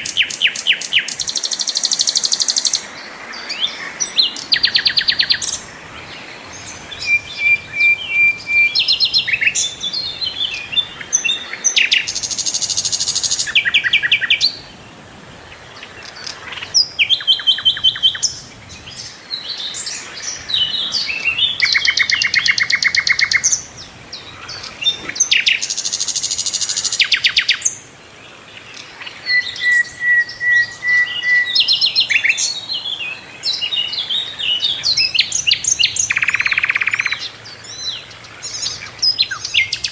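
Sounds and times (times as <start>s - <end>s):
flycatcher singing: 0.0s - 14.8s, 15.5s - 27.8s, 28.7s - 39.9s.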